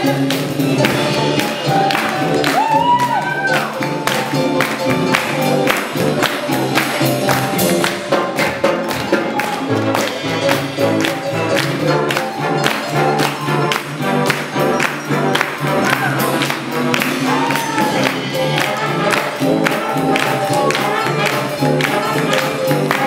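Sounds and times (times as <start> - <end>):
brass band playing fast jazz: 0.0 - 23.0.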